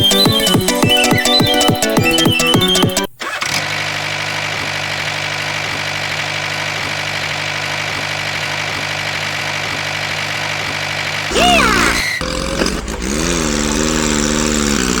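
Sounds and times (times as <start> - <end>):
small tractor engine running: 0.0 - 15.0.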